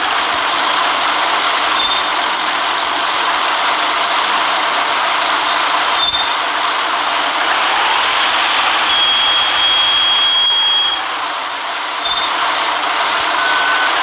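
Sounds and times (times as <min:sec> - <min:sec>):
bus running noise hiss: 0:00.0 - 0:14.0.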